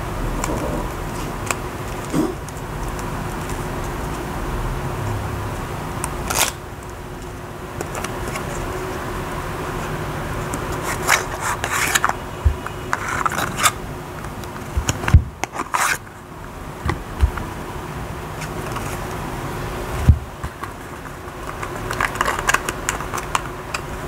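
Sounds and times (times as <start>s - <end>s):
cards sliding and rubbing: 0.3s - 4.4s, 5.0s - 16.2s, 18.3s - 19.3s, 19.9s - 24.0s.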